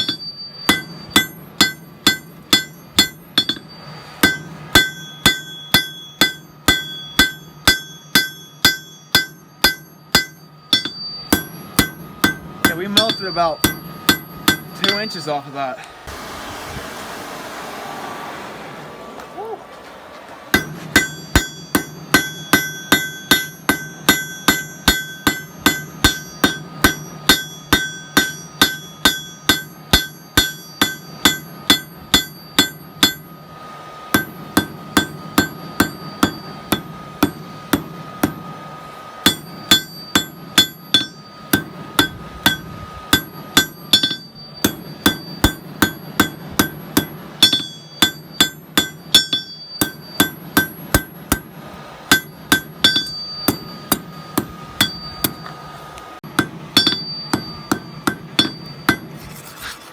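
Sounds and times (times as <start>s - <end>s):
hammer ringing on anvil: 0.0s - 15.7s, 20.5s - 59.3s.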